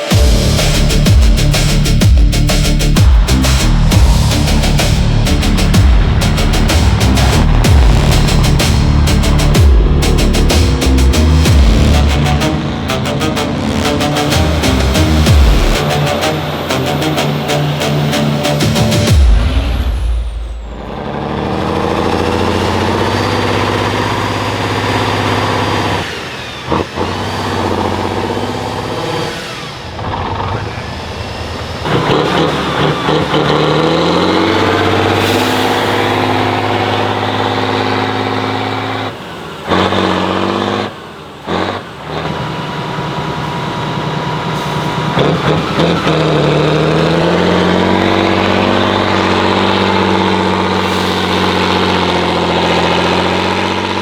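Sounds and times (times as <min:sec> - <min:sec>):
truck engine revving under load: 0:00.0 - 0:54.0.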